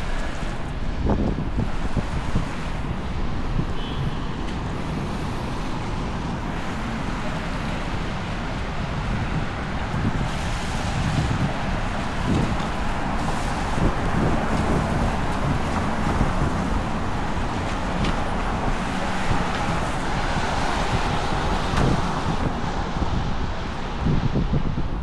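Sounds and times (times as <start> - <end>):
cars passing: 0.0 - 25.0.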